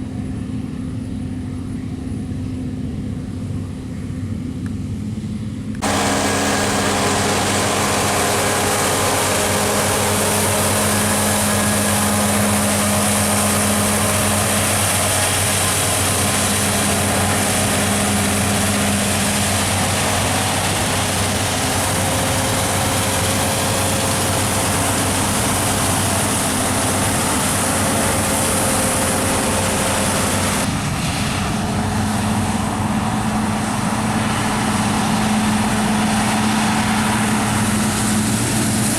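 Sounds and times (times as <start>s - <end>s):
diesel engine hum: 0.0s - 38.9s
machinery rushing noise: 5.8s - 38.9s.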